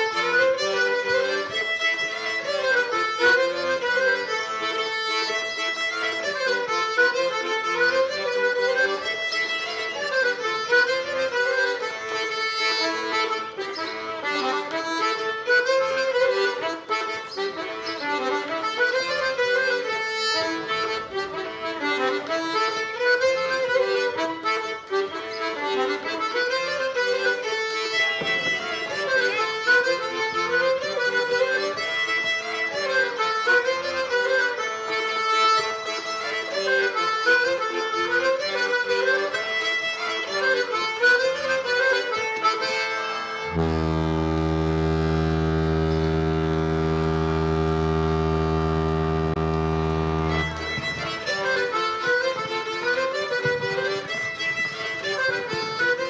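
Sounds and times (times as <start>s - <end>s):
accordion dance tune: 0.0s - 56.0s.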